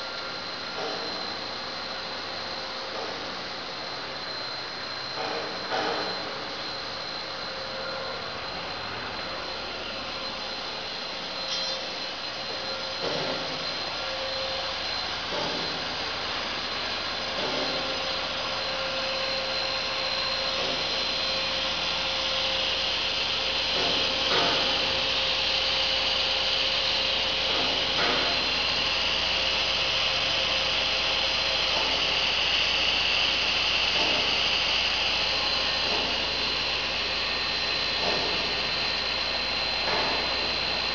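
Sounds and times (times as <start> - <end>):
machinery high whine and hum: 0.0 - 40.9
machinery hiss: 4.9 - 40.9.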